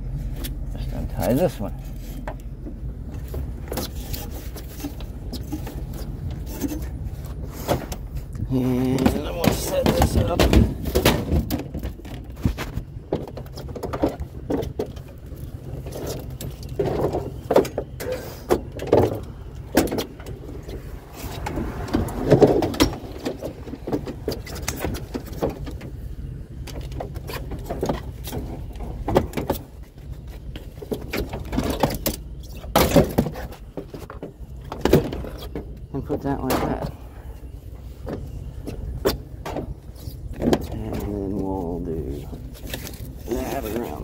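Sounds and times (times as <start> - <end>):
steady low hum: 0.0 - 44.0
knocks clanks and rattles: 0.4 - 37.1, 37.8 - 41.5.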